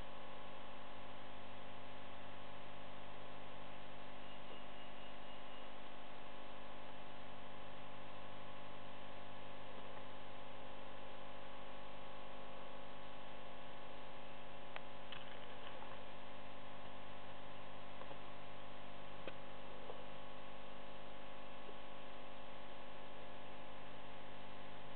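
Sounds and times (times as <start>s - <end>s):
constant hiss: 0.0s - 24.9s
electrical mains hum: 0.0s - 24.9s.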